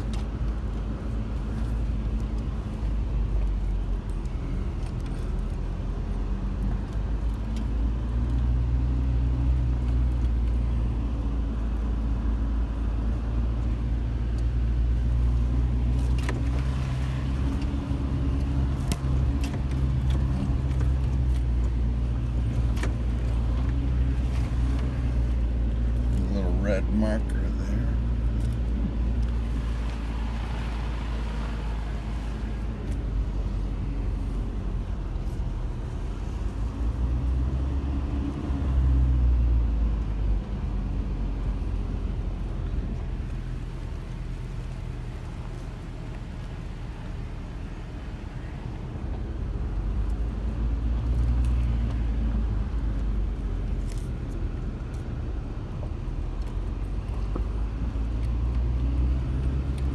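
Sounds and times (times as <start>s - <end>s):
vehicle engine and tyres rumbling: 0.0s - 59.9s.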